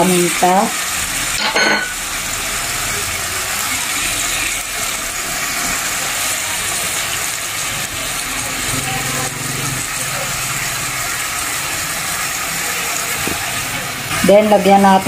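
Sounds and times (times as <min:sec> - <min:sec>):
pork sizzling in a pot: 0:00.0 - 0:15.0.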